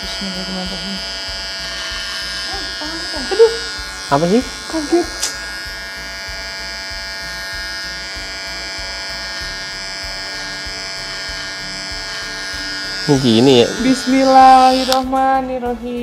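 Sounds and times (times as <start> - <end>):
electric hair clipper buzzing: 0.0 - 15.4.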